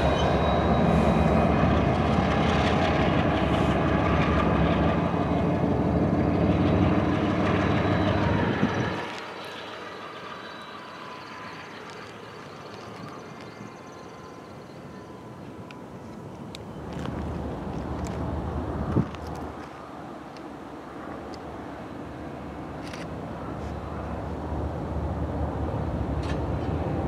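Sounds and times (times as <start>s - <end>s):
locomotive engine and wheel rumble: 0.0s - 27.0s.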